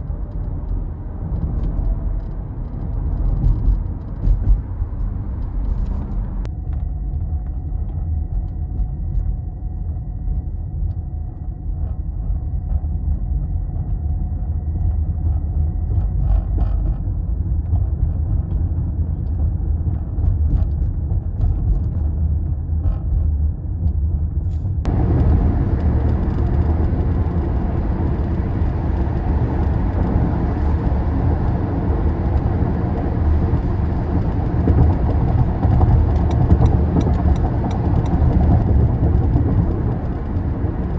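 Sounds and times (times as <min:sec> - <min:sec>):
interior clicks and rattles: 0:00.0 - 0:09.3, 0:14.7 - 0:40.9
car road rumble: 0:00.0 - 0:40.9.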